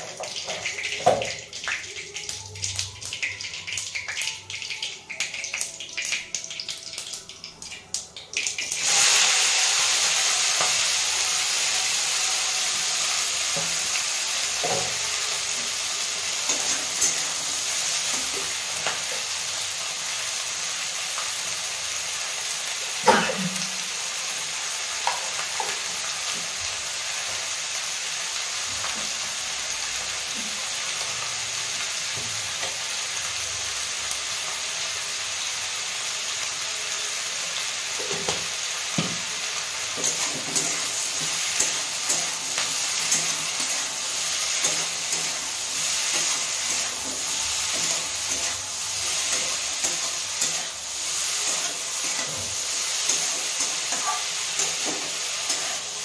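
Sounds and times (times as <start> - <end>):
seeds crackling in hot oil: 0.0 - 56.0
vegetables sizzling in oil: 0.0 - 56.0.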